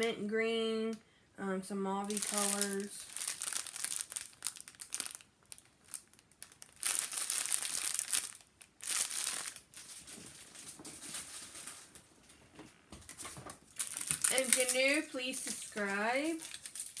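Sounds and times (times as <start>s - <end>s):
plastic bag crinkling: 2.0s - 12.5s, 13.1s - 17.0s.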